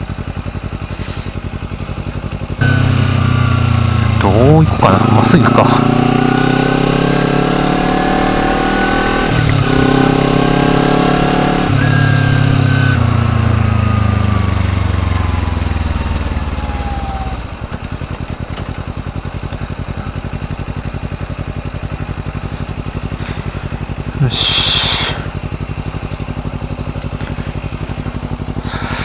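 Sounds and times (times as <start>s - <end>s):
motorcycle engine idling: 0.0s - 7.2s, 8.2s - 29.0s
motorcycle engine accelerating: 0.0s - 29.0s.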